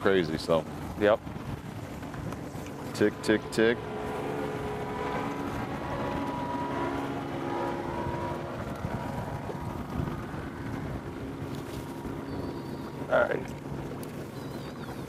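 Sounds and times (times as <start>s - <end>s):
outboard boat motor running: 0.0s - 15.0s
wind noise on microphone: 0.0s - 15.0s.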